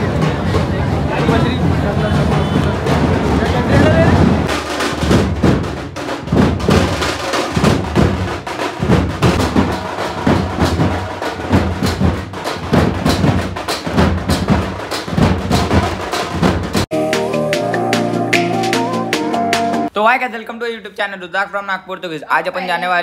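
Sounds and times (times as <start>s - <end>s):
drummers beating drums: 0.0s - 19.9s.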